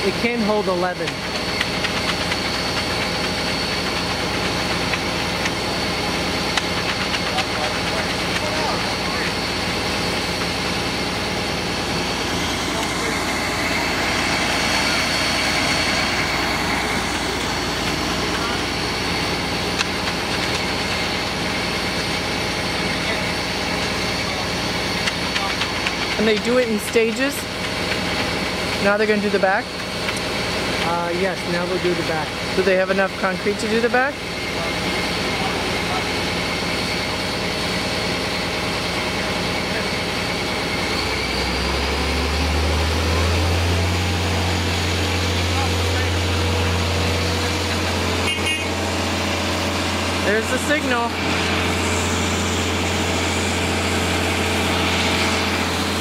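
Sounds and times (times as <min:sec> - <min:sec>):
deep hum: 0:00.0 - 0:32.6, 0:34.3 - 0:56.0
diesel engine running: 0:00.0 - 0:56.0
high steady whine: 0:00.0 - 0:56.0.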